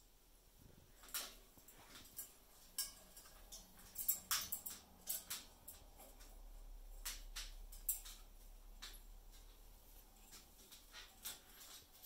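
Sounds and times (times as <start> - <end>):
parrot claws clicking on cage: 1.0 - 12.0.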